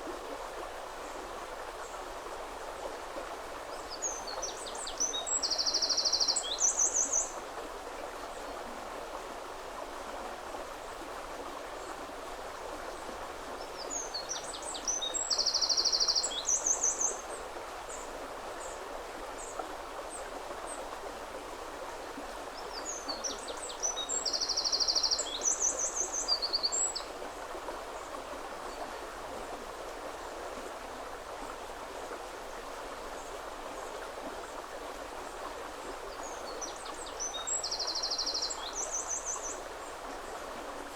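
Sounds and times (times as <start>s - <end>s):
flowing river water: 0.0s - 40.9s.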